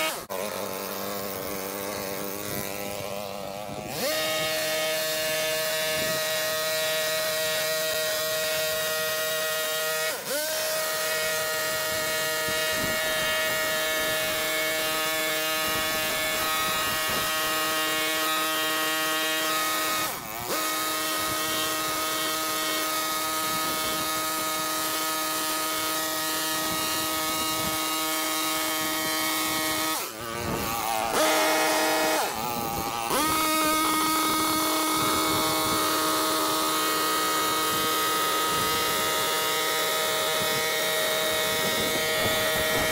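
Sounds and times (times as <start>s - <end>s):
power tool engine whine: 0.0s - 42.9s.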